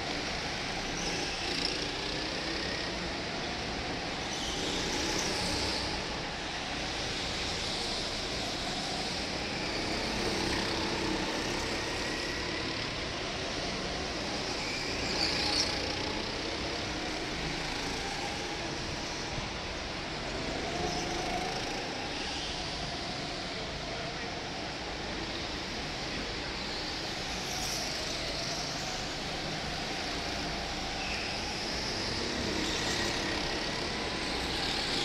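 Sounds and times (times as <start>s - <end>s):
go-kart engines running: 0.0s - 35.0s.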